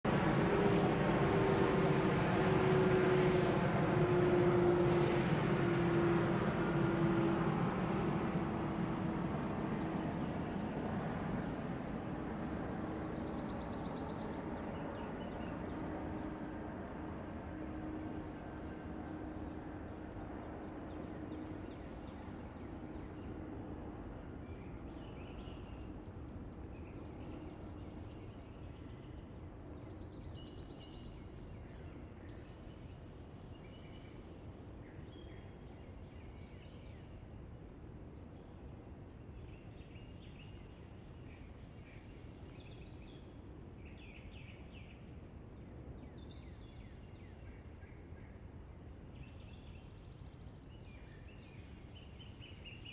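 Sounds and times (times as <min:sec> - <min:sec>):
low background rumble: 0:00.0 - 0:52.8
faint steady drone: 0:00.1 - 0:52.8.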